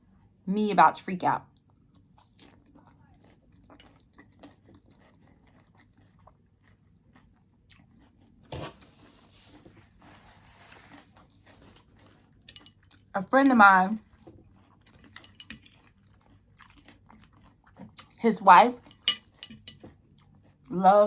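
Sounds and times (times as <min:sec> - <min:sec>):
chewing and crunching food: 0:00.0 - 0:00.5, 0:01.4 - 0:21.0.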